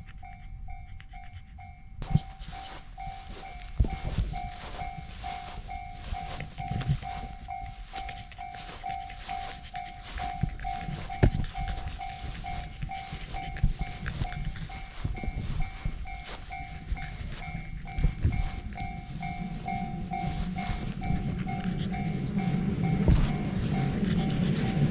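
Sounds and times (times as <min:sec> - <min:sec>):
railroad crossing bell ringing: 0:00.0 - 0:24.9
low rumble: 0:02.1 - 0:24.9.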